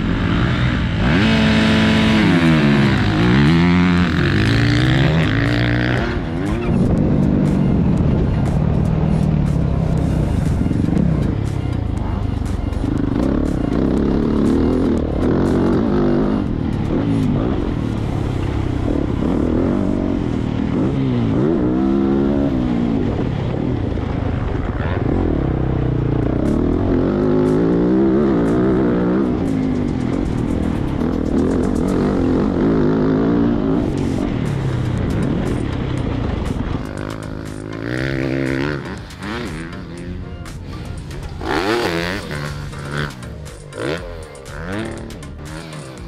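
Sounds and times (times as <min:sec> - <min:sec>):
dirt bike engine revving: 0:00.0 - 0:11.7, 0:12.6 - 0:46.0.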